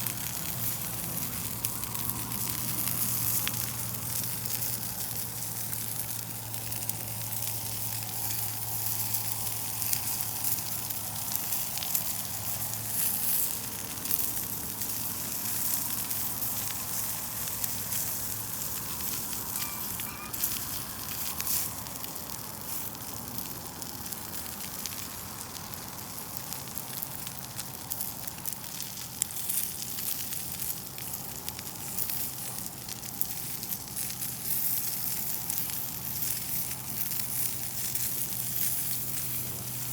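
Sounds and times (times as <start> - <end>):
crackling pops of burning wood: 0.0 - 39.9
meat sizzling: 0.0 - 39.9.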